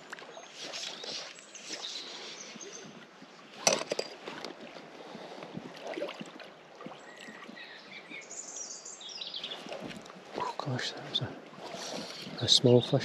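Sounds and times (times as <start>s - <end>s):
small water splashes: 0.0s - 8.3s, 9.1s - 13.0s
river water running and lapping: 0.0s - 13.0s.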